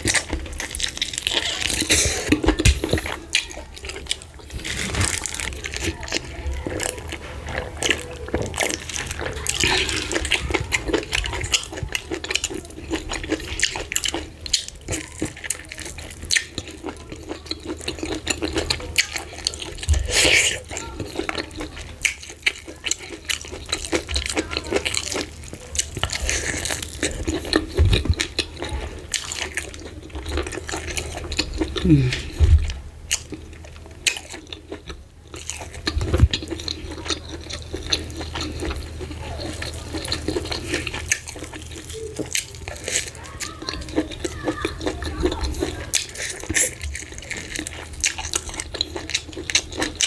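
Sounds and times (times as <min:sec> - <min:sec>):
wet smacking and chewing: 0:00.0 - 0:50.0.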